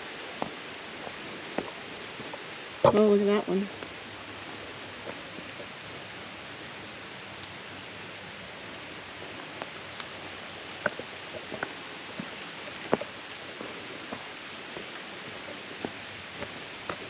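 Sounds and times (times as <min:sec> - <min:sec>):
light rain on leaves: 0:00.0 - 0:17.0.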